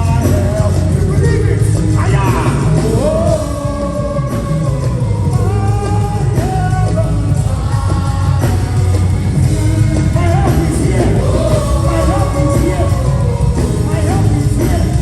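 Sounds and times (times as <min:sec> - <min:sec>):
gospel band playing: 0:00.0 - 0:15.0
singers' voices: 0:00.0 - 0:15.0.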